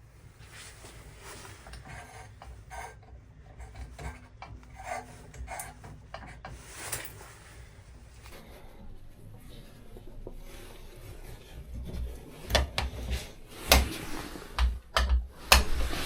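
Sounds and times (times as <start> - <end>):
scraping and rubbing strokes: 0.3 - 8.7, 10.4 - 16.0.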